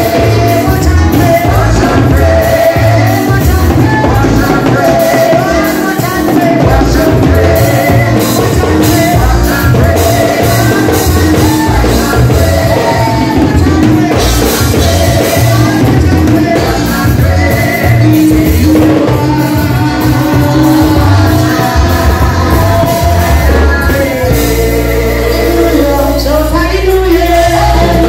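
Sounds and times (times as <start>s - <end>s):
drum kit beat: 0.0s - 28.0s
gospel music through speakers: 0.0s - 28.0s
heavy bass: 0.0s - 28.0s
singers singing into microphones: 0.0s - 28.0s.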